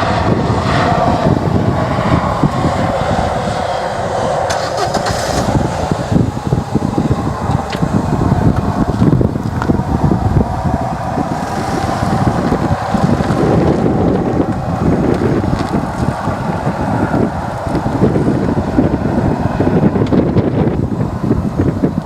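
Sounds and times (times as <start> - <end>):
steady hum: 0.0 - 22.0
wind buffeting microphone: 0.0 - 22.0.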